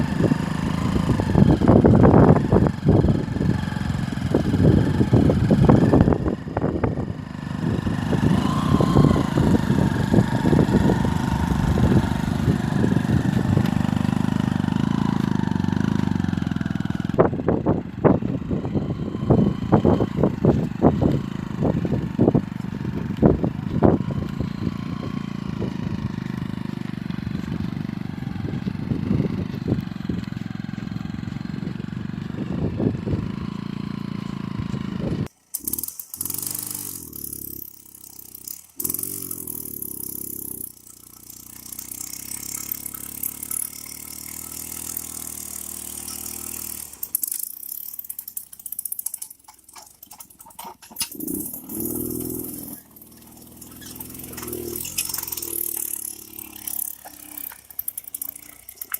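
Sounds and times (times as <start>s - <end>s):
tractor engine droning: 0.0s - 58.9s.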